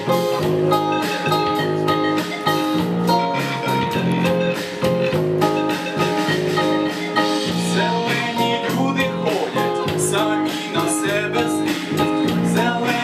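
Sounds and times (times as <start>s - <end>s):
drums keeping a steady beat: 0.0s - 13.0s
guitar: 0.0s - 13.0s.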